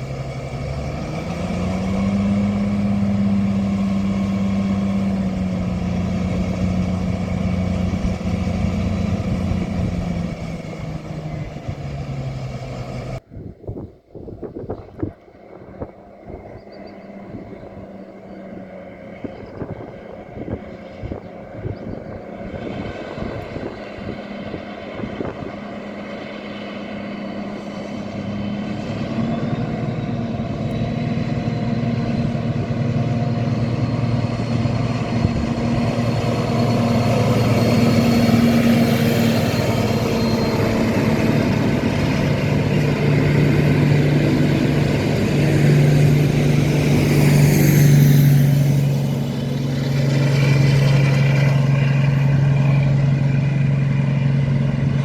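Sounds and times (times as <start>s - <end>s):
train engine drone: 0.0s - 13.3s, 14.7s - 55.0s.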